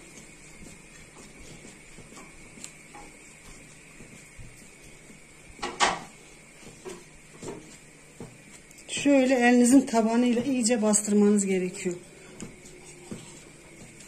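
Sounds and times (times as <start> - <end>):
pastry dough rustling and crackling: 0.0 - 14.0.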